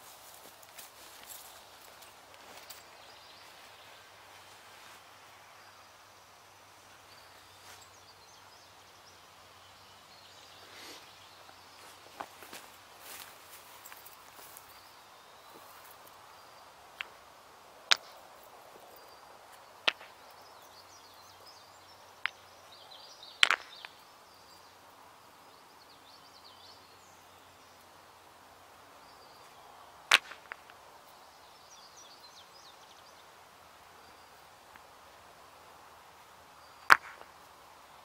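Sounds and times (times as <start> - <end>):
quiet outdoor ambience: 0.0 - 38.0.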